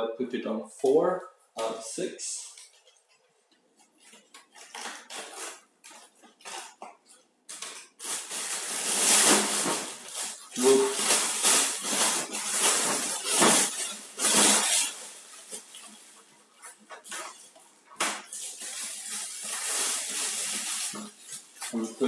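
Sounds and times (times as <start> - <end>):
plastic bag rustling: 3.8 - 22.0.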